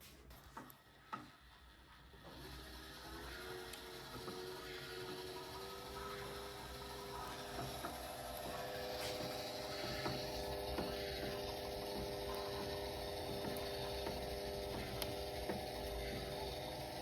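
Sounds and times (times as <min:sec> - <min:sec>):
motor whining: 0:01.8 - 0:17.0.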